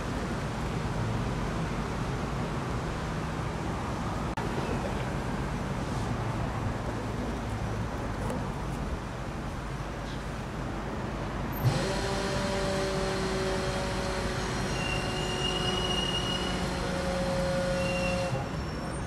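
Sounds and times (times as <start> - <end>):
low hum of traffic: 0.0 - 19.0.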